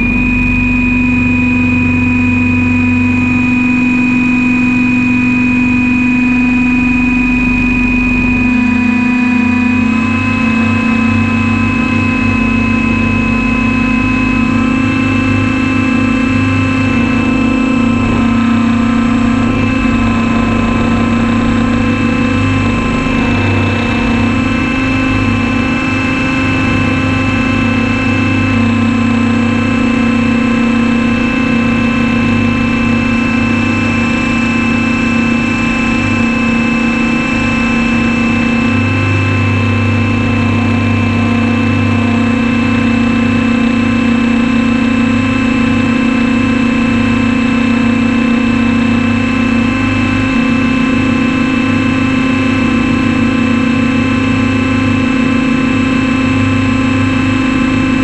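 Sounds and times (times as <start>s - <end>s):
low hum: 0.0s - 58.0s
model helicopter rotor whine: 0.0s - 58.0s.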